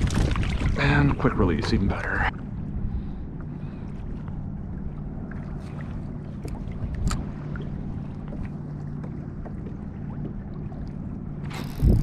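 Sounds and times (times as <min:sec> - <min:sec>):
low steady hum: 0:00.0 - 0:12.0
small waves lapping against hull: 0:00.0 - 0:12.0.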